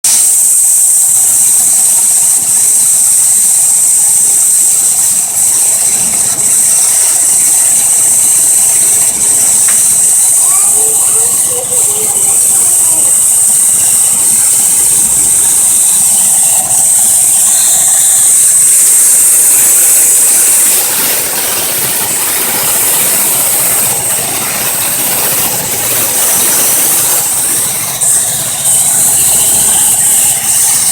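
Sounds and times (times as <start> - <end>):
steady high-pitched hiss: 0.1 - 30.9
car engine idling: 0.2 - 30.9.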